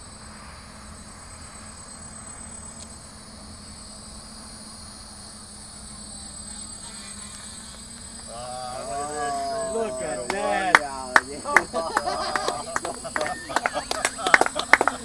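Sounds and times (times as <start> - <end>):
high whine: 0.0 - 15.0
quadcopter propellers humming: 0.0 - 15.0.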